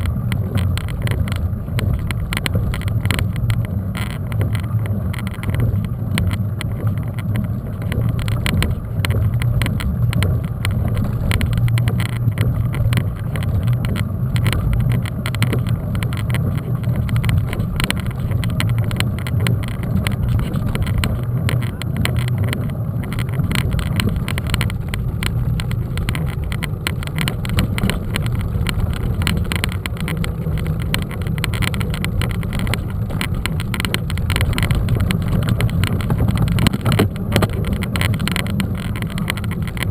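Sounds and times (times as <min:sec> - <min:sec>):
bike tyres on ground: 0:00.0 - 0:39.9
wind rumble on microphone: 0:00.0 - 0:39.9.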